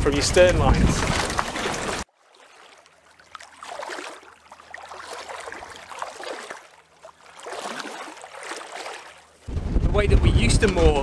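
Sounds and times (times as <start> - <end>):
water lapping and sloshing: 0.0 - 9.5.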